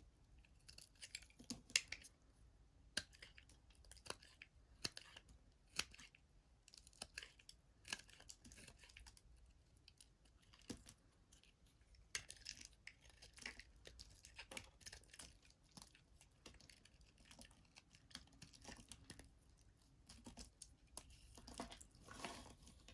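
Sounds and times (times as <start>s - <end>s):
blade cutting dry soap: 0.3s - 2.2s, 2.8s - 22.9s.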